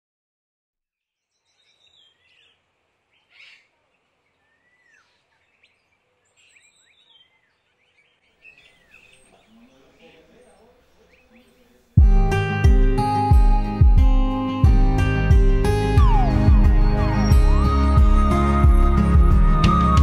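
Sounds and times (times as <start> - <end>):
small birds chirping and tweeting: 1.0 - 12.1, 15.0 - 20.0.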